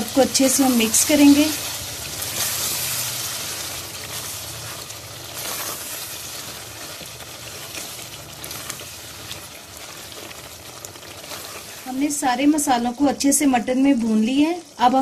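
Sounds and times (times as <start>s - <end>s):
spatula stirring in a pot: 0.0s - 12.8s
meat sizzling in a pot: 0.0s - 15.0s.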